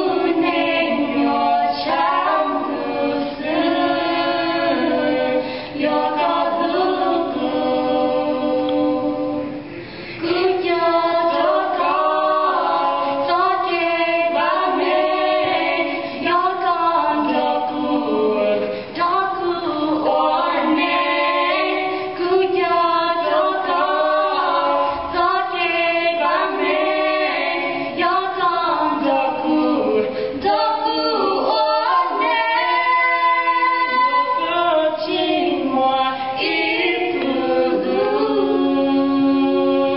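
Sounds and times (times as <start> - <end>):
women singing a cappella: 0.0 - 39.9.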